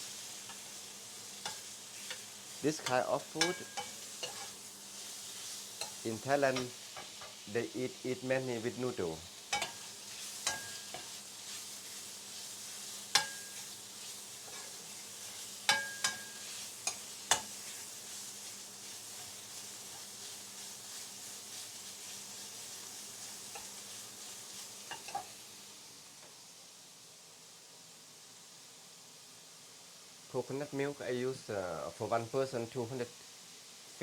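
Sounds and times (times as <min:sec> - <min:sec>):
chicken sizzling in a pan: 0:00.0 - 0:34.0.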